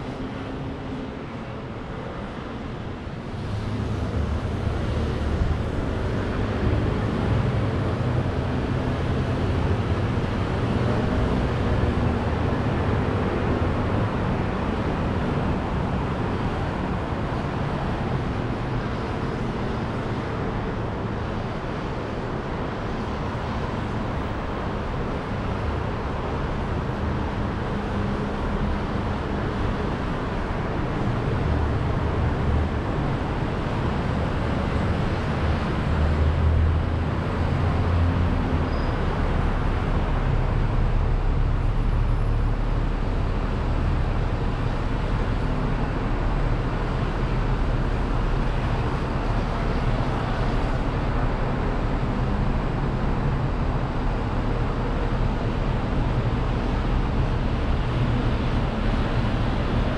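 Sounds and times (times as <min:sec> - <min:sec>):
passing vehicles: 0:00.0 - 0:59.9.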